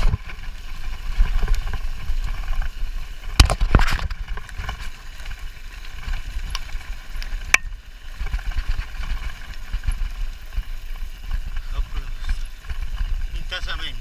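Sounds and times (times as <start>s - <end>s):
mountain bike rattling on dirt: 0.0s - 14.0s.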